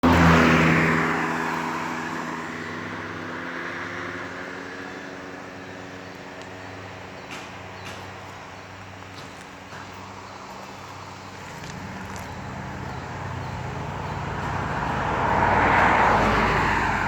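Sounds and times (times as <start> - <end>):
vehicle engine: 0.0 - 17.0.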